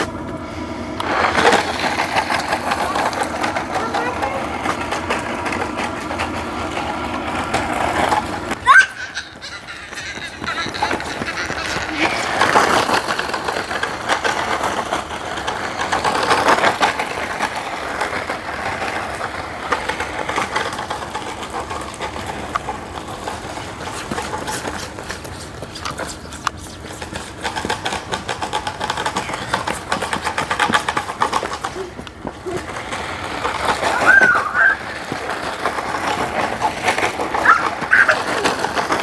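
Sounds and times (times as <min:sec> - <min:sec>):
toy truck motor whirring: 0:00.0 - 0:39.0.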